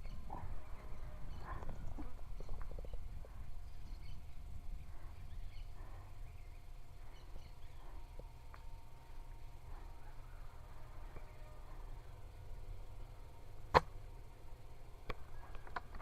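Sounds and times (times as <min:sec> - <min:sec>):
low rumble on microphone: 0:00.0 - 0:14.3.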